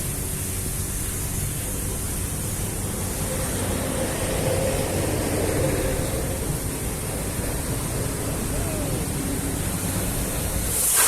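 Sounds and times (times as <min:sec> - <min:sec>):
pressure washer spraying: 0:00.0 - 0:11.0.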